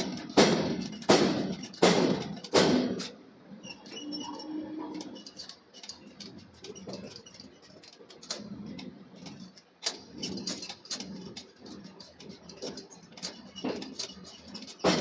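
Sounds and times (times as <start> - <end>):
metal workshop clicks and knocks: 0.0 - 3.2, 4.9 - 15.0.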